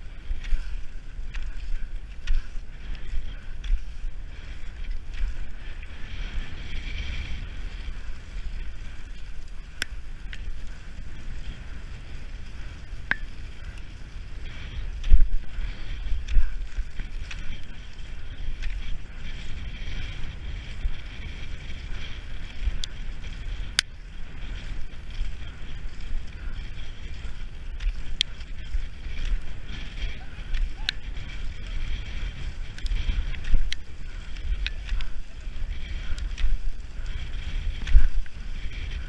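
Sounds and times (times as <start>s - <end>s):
skis hissing on snow: 0.0s - 39.0s
wind rumbling on microphone: 0.0s - 39.0s.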